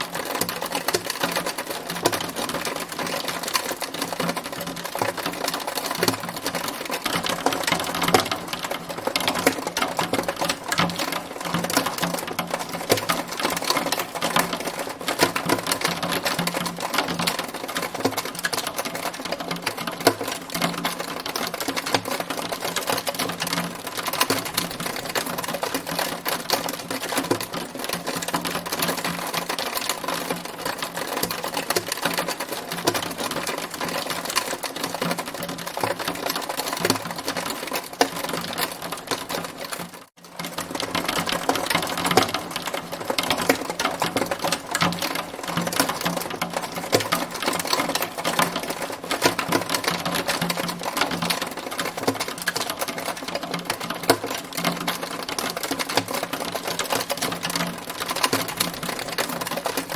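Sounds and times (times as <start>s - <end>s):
hailstones pelting a hard surface: 0.0s - 59.9s.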